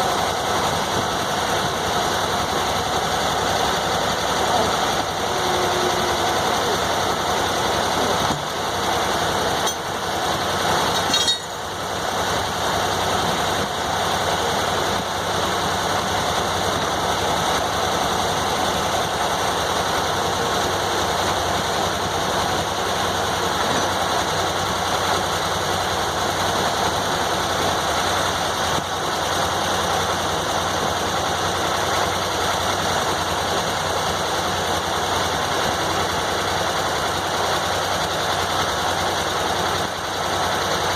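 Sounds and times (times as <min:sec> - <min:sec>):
sawmill power unit running: 0:00.0 - 0:40.9.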